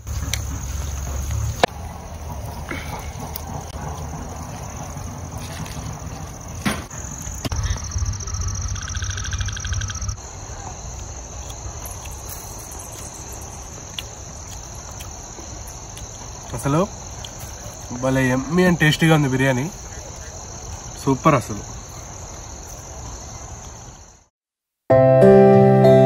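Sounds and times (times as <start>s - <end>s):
crickets chirring: 0.0s - 24.3s
rapidly pulsing insect call: 0.0s - 24.3s.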